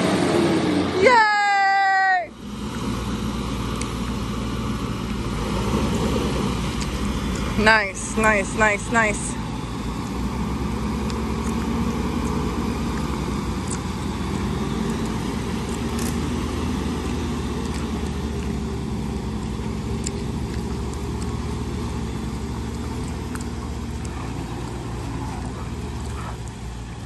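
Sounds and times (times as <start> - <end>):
truck engine under load: 0.0 - 27.0.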